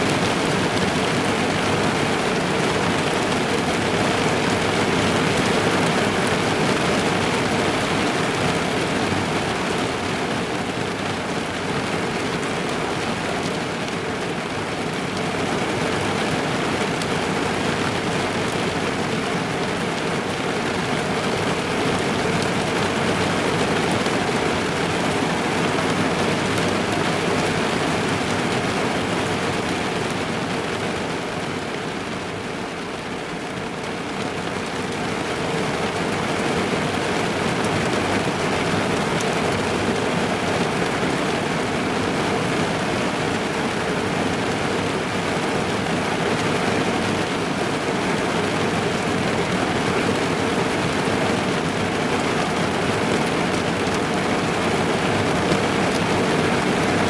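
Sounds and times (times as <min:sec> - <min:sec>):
rain pattering on car roof: 0:00.0 - 0:57.0.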